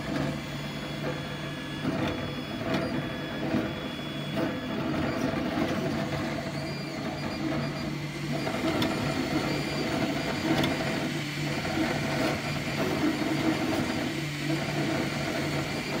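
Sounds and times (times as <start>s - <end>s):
cooling fans whirring: 0.0s - 16.0s
stepper motors humming: 0.0s - 16.0s.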